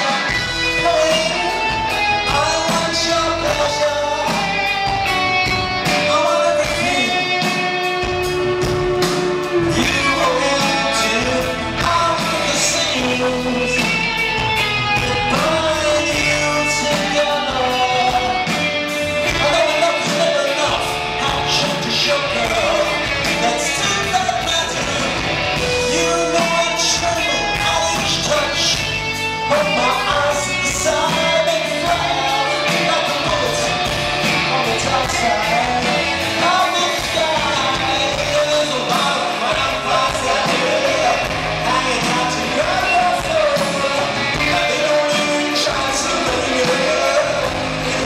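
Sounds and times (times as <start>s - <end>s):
bass guitar: 0.0s - 48.0s
drums: 0.0s - 48.0s
electric guitars: 0.0s - 48.0s
man singing: 0.0s - 48.0s.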